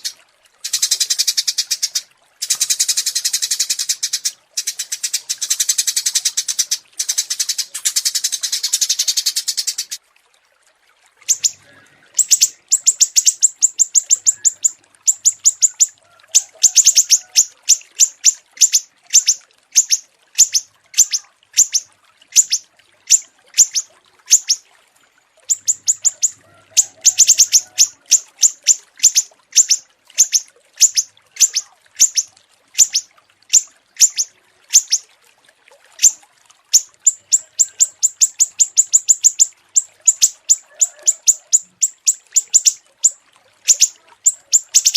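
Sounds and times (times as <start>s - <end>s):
songbird chipping song: 0.0s - 10.0s, 11.3s - 24.6s, 25.5s - 35.0s, 36.8s - 44.9s.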